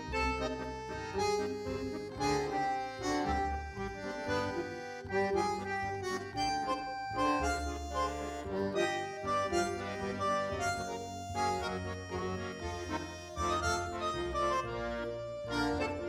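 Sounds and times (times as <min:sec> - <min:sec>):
melody of held notes: 0:00.0 - 0:16.0.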